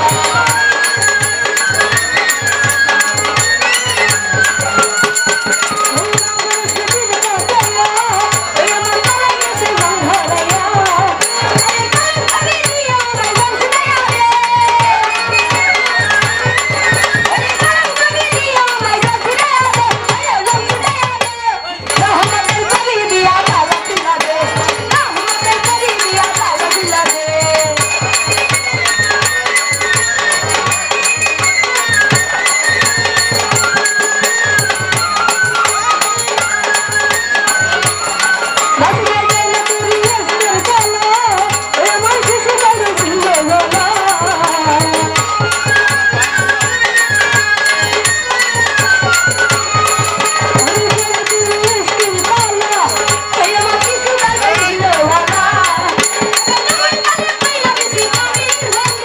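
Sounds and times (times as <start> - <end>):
folk band playing: 0.0 - 40.5, 41.2 - 58.5
fast hand drum beat: 0.0 - 59.0.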